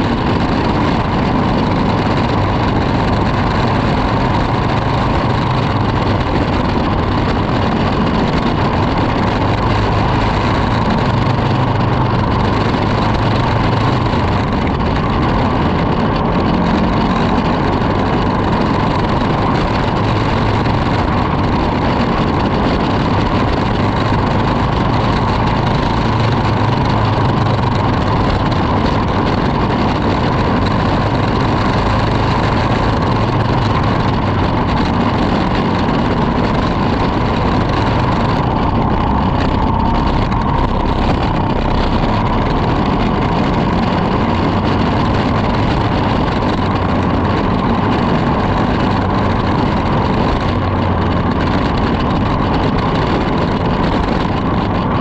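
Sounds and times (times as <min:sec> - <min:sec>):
kart engine running: 0:00.0 - 0:55.0
other kart engines: 0:00.0 - 0:55.0.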